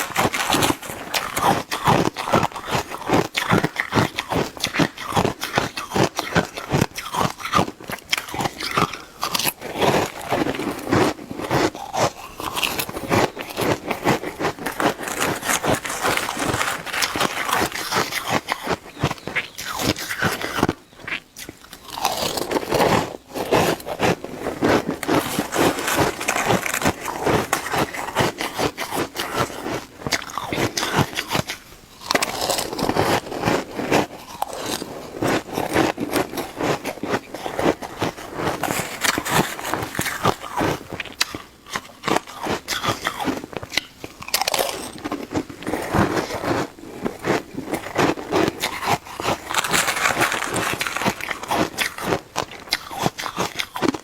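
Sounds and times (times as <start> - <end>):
chewing shaved ice: 0.0 - 54.0.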